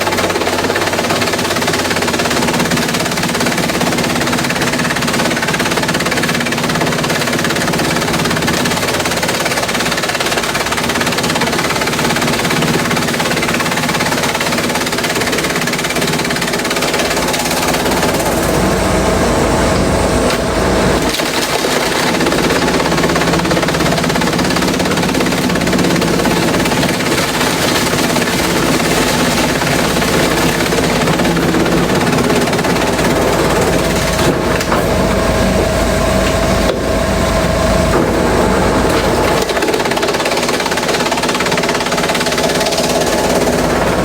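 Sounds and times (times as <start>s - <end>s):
shredder machine running: 0.0s - 44.0s.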